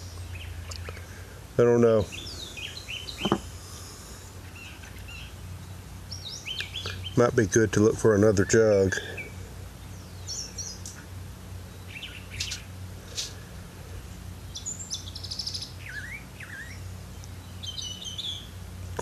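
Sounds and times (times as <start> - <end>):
small birds chirping: 0.0 - 19.0
steady low hum: 0.0 - 19.0.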